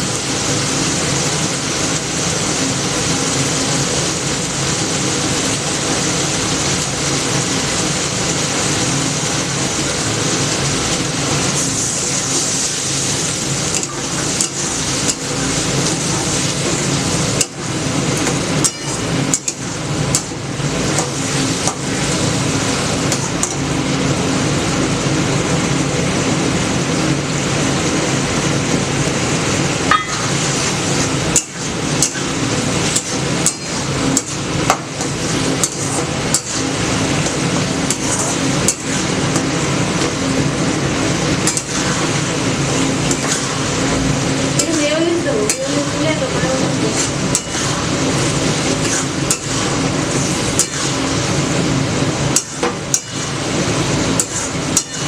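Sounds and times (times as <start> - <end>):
food sizzling in a pan: 0.0 - 23.9, 29.2 - 55.0
constant hum: 0.0 - 55.0.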